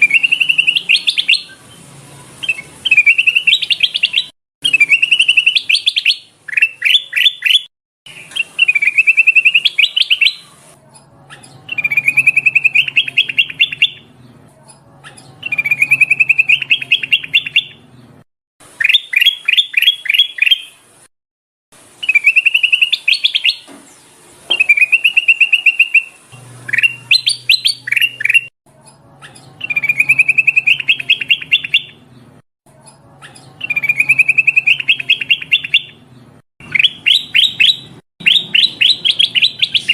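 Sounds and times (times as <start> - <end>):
bulbul singing: 0.0 - 20.9, 21.9 - 39.9.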